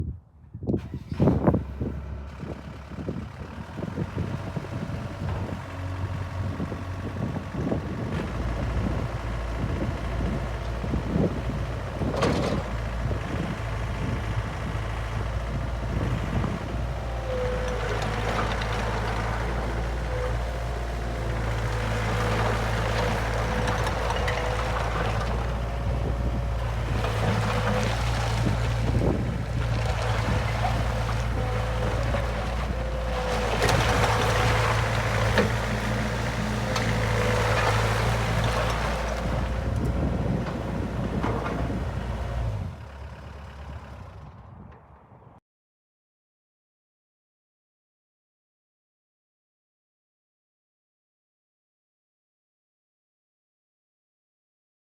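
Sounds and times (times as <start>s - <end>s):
diesel engine running: 0.8s - 45.2s.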